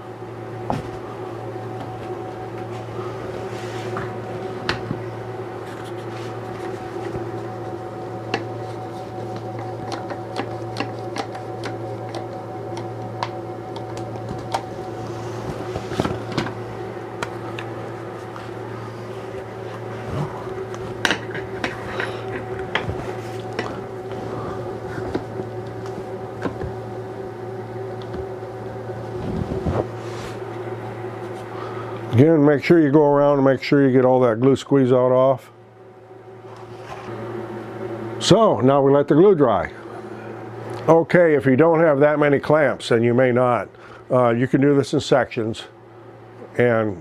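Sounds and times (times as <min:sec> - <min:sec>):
machine hum: 0:00.0 - 0:47.0.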